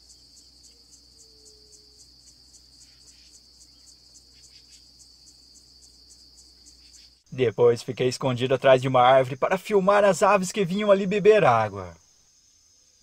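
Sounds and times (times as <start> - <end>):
insect trilling: 0.0 - 13.0.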